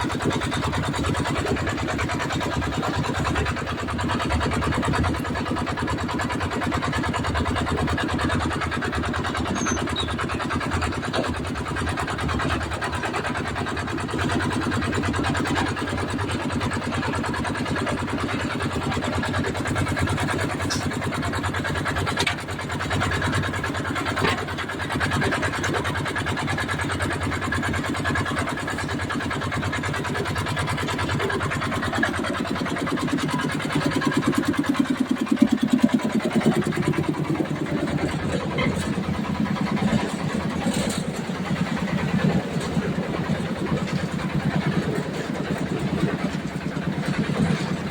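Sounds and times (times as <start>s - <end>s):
concrete mixer engine running: 0.0s - 47.9s.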